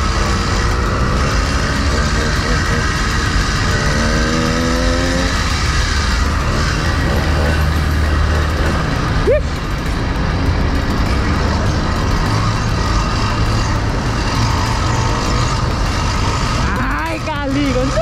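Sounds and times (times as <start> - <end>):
two-stroke engine droning: 0.0 - 18.0.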